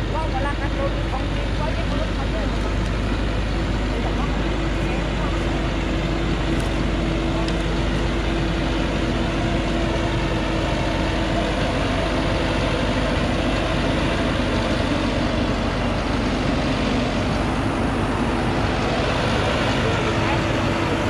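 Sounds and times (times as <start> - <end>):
truck engine working hard: 0.0 - 21.0.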